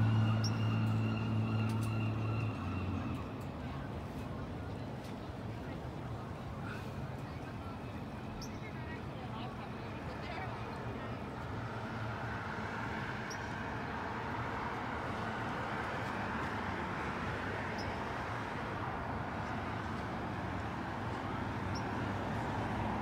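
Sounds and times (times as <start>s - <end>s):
distant road traffic: 0.0s - 23.0s.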